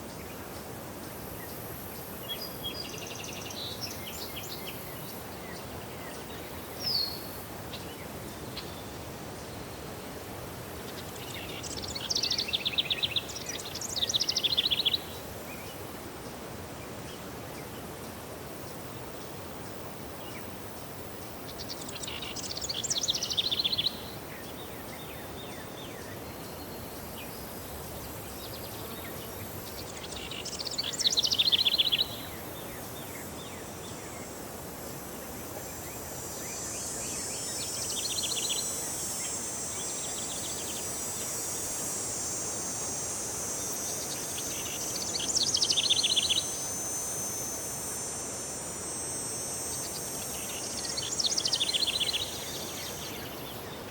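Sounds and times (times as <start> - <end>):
outdoor background noise: 0.0 - 53.9
songbird singing: 0.0 - 53.9
steady high hiss: 0.0 - 53.9.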